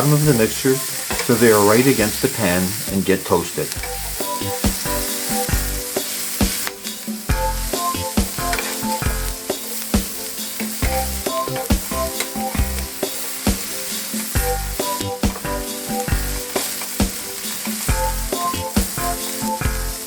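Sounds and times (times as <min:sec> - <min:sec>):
food sizzling in a frying pan: 0:00.0 - 0:20.0
melodic background music: 0:00.0 - 0:20.0.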